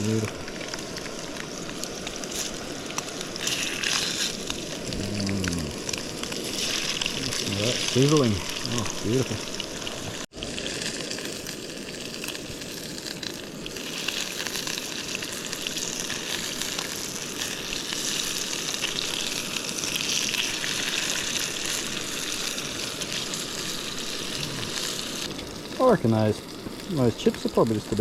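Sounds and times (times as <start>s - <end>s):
fish frying in hot oil: 0.0s - 28.0s.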